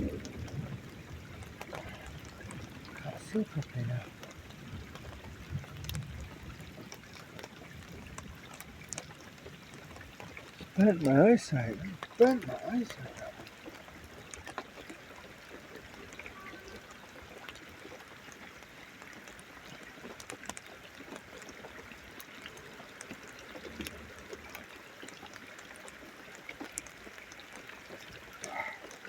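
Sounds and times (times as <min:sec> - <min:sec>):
rain hiss: 0:00.0 - 0:29.0
water drops ticking: 0:00.0 - 0:29.0.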